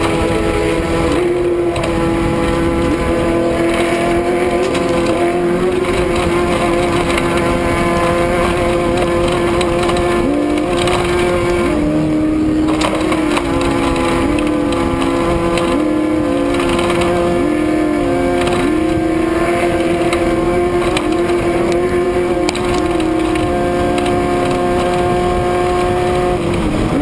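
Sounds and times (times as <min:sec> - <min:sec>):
race engine at high revs: 0:00.0 - 0:27.0.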